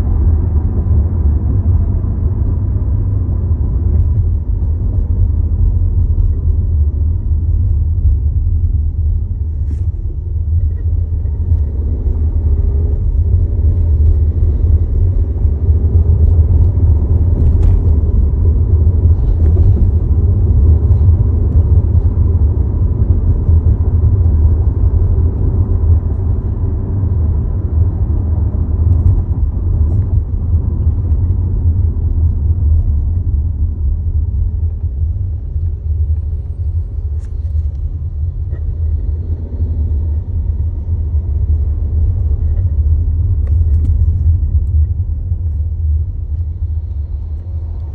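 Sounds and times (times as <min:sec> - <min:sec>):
faint steady whine: 0:00.0 - 0:47.9
low rumble and vibration: 0:00.0 - 0:47.9.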